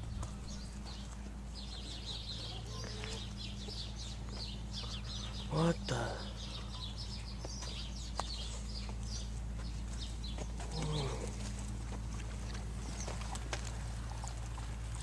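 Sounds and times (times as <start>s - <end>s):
birds chirping: 0.0s - 15.0s
low hum: 0.0s - 15.0s.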